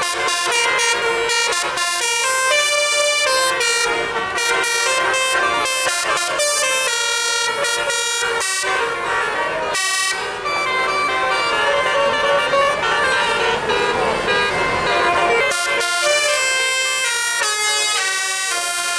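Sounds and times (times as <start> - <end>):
musical air horn playing a tune: 0.0 - 18.9.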